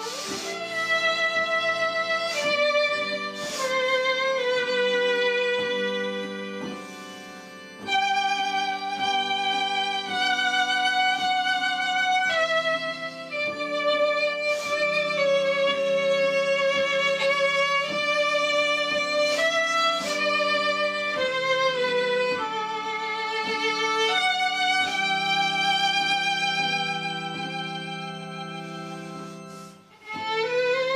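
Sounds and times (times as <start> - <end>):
slow instrumental music: 0.0 - 30.9.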